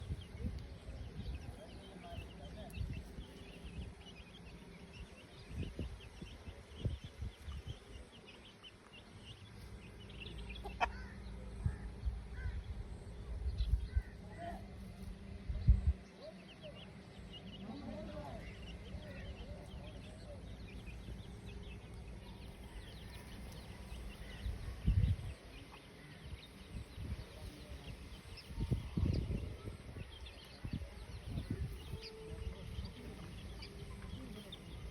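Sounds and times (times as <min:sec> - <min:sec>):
chickens chirping: 0:00.0 - 0:34.9.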